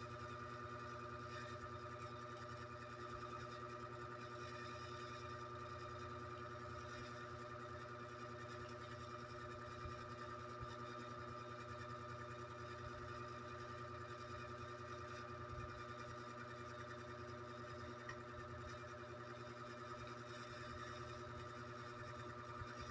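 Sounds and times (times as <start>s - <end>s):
faint machine hum: 0.0s - 22.9s.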